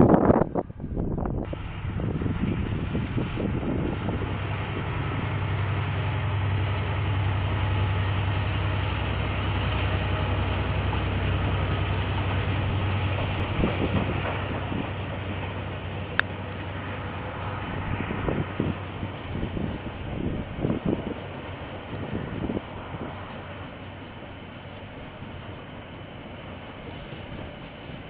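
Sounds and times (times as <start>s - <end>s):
diesel train engine drone: 0.0s - 28.0s
wheels rumbling on rails: 0.0s - 28.0s.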